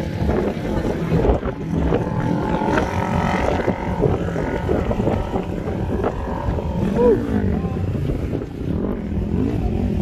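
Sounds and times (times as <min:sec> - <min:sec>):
off-road vehicle engines revving: 0:00.0 - 0:10.0
wind buffeting microphone: 0:00.0 - 0:10.0.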